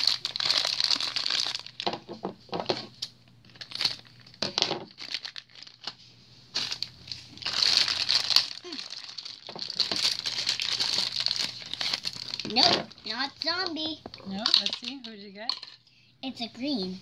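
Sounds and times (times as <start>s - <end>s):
plastic bag crinkling: 0.0s - 15.8s.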